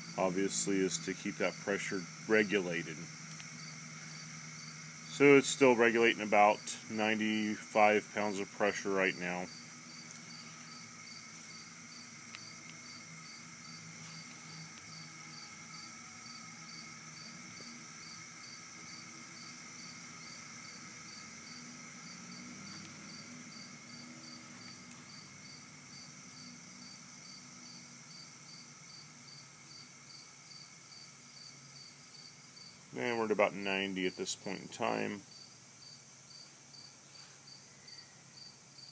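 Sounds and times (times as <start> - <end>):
high-pitched insect hiss: 0.0 - 38.9
insect chirping: 0.0 - 38.9.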